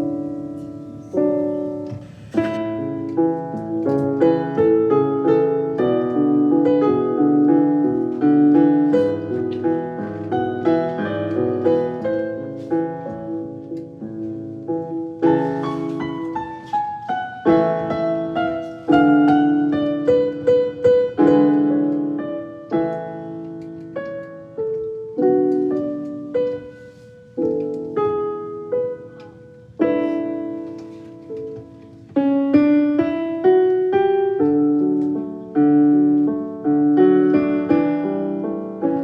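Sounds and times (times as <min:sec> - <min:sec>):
slow solo piano: 0:00.0 - 0:39.0.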